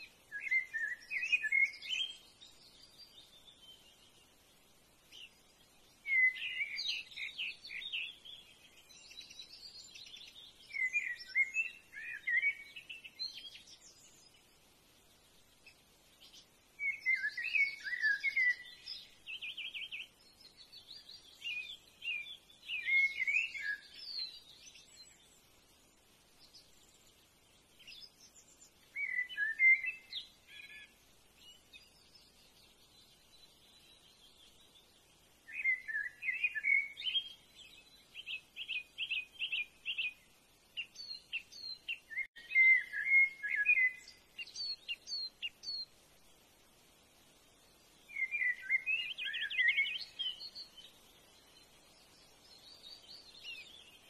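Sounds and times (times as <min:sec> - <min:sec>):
high jumbled bird chirps: 0:00.0 - 0:54.0.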